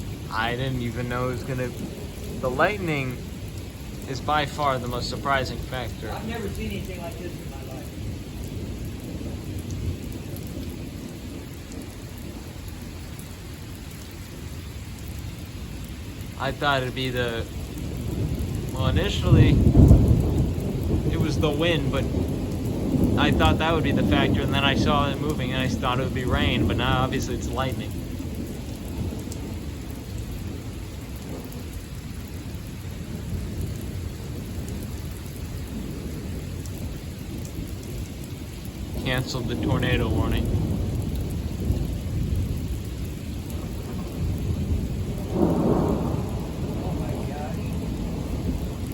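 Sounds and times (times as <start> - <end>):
heavy rain falling: 0.0 - 48.9
low rumble of thunder: 0.0 - 48.9.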